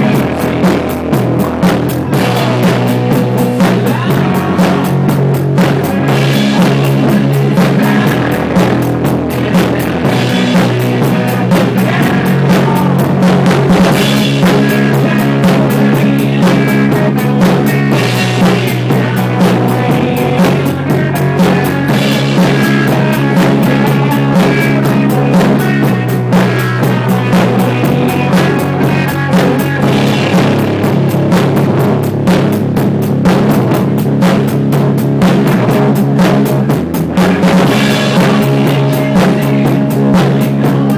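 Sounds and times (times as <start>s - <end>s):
bass guitar: 0.0s - 40.9s
drum kit beat: 0.0s - 40.9s
electric guitars: 0.0s - 40.9s.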